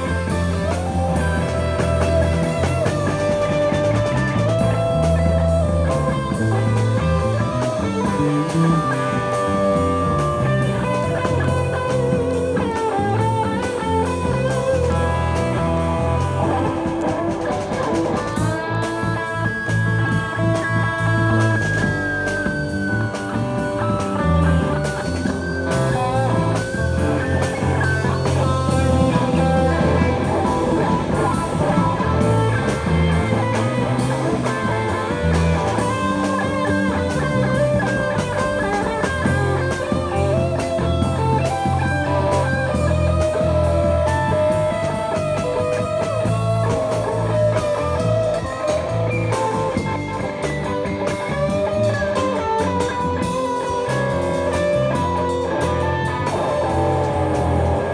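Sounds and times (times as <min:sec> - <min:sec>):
bass and drums: 0:00.0 - 0:57.9
electric lead guitar bending notes: 0:00.0 - 0:57.9.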